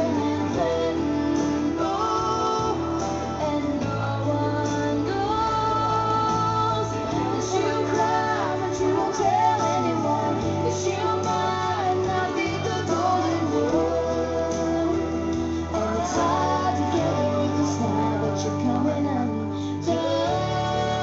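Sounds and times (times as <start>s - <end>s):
instrumental accompaniment: 0.0s - 21.0s
woman singing: 0.0s - 21.0s.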